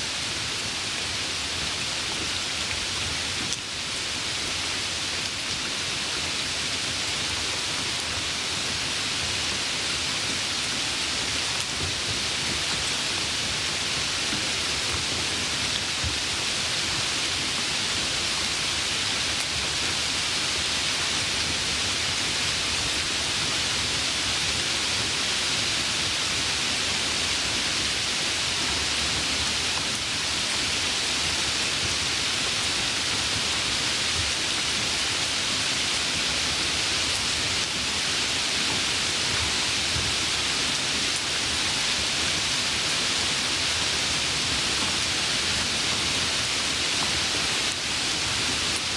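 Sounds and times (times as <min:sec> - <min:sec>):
light rain falling: 0:00.0 - 0:48.9.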